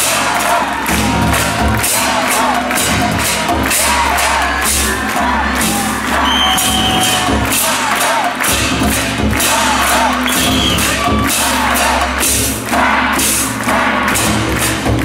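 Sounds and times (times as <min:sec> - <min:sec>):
crowd calls and whoops: 0:00.0 - 0:14.5
festival music with percussion: 0:00.0 - 0:15.0.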